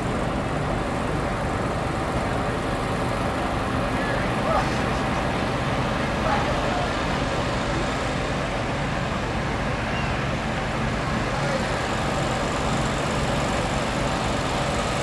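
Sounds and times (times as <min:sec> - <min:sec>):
engines humming: 0:00.0 - 0:15.0
outdoor background noise: 0:00.0 - 0:15.0.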